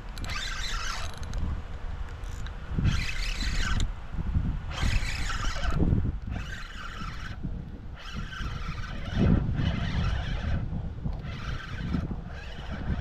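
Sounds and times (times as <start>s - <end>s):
fishing reel cranking: 0.0s - 1.5s, 2.2s - 3.9s, 4.7s - 13.0s
low wind rumble on microphone: 0.0s - 13.0s.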